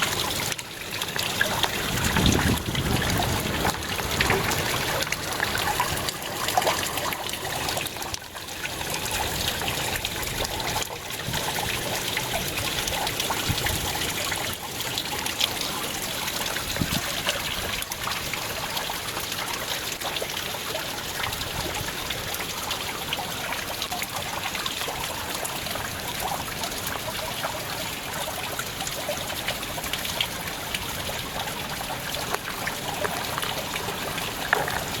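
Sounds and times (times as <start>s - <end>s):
water trickling over rocks: 0.0s - 35.0s.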